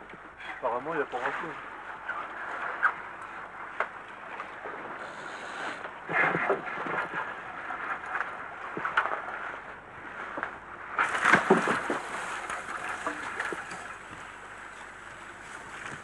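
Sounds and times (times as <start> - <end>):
sea water washing against boat: 0.0 - 16.0.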